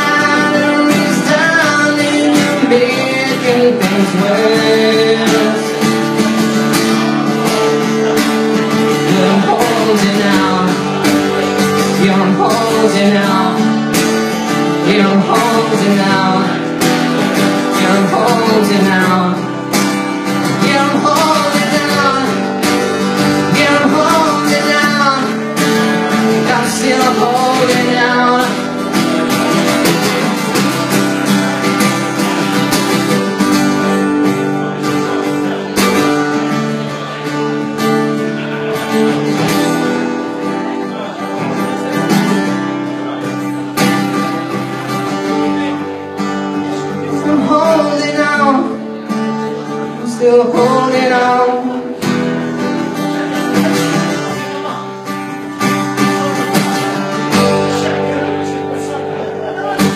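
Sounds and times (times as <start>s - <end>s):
acoustic guitar strumming: 0.0s - 59.9s
man singing: 0.0s - 59.9s.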